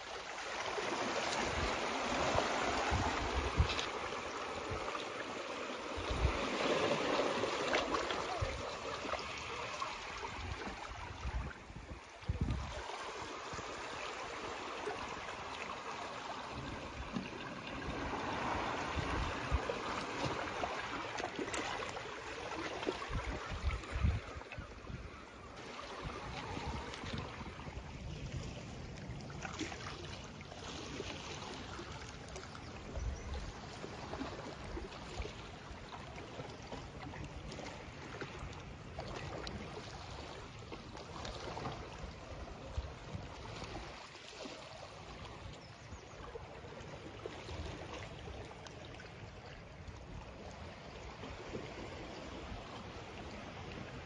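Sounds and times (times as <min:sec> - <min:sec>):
water lapping: 0:00.0 - 0:54.0.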